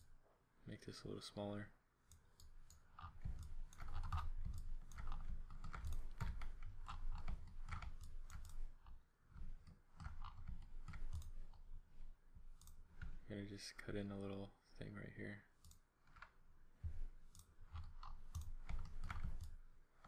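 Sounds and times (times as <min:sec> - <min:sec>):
irregular clicks: 0:02.0 - 0:14.0, 0:15.5 - 0:20.0.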